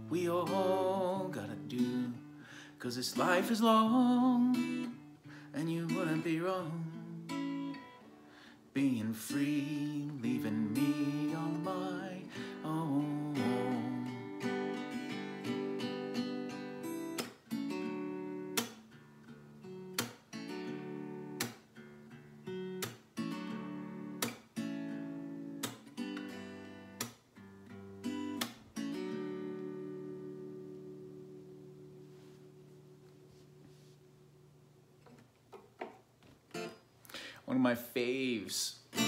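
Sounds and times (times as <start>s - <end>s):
acoustic guitar strummed chords: 0.0s - 34.4s, 36.5s - 39.0s.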